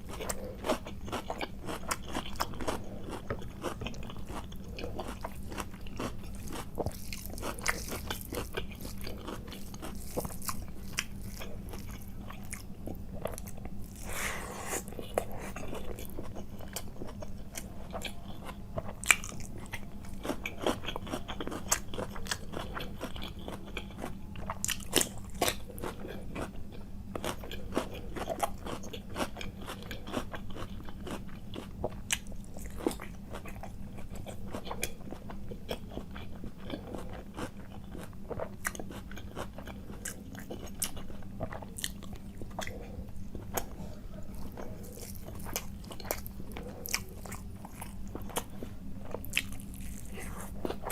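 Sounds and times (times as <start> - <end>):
person chewing crunchy food: 0.0 - 50.9.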